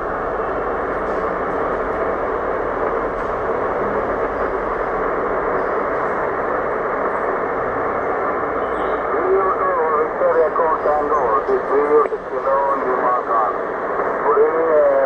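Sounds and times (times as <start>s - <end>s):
radio static hiss: 1.1s - 15.0s.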